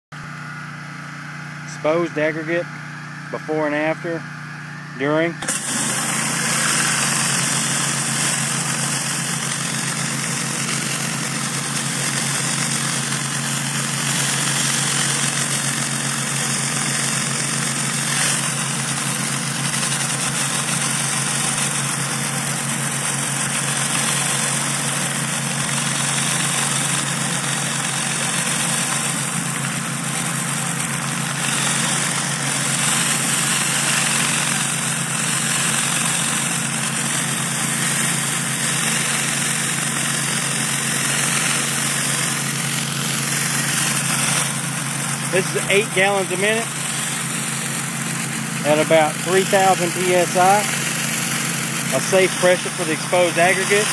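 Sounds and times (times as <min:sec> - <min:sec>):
pressure washer engine running: 0:00.1 - 0:53.9
high-pressure water spraying concrete: 0:05.4 - 0:53.9.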